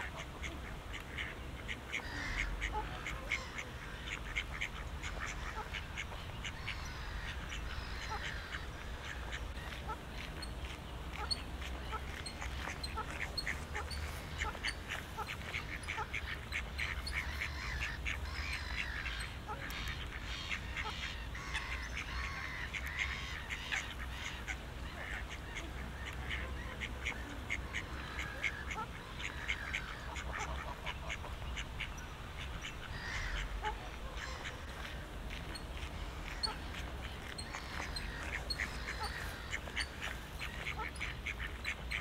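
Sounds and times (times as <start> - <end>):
ducks quacking: 0.0 - 42.0
small birds chirping: 2.0 - 42.0.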